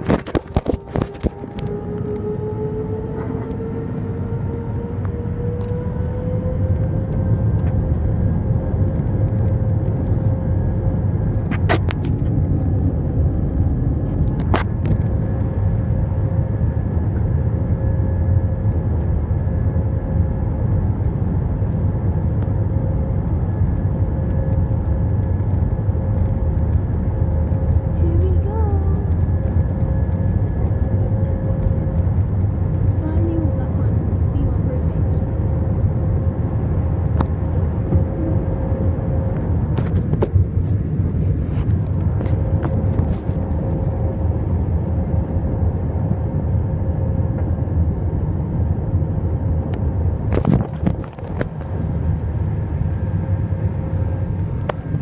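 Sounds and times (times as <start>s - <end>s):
jet engine rumble and whine: 0.0s - 55.0s.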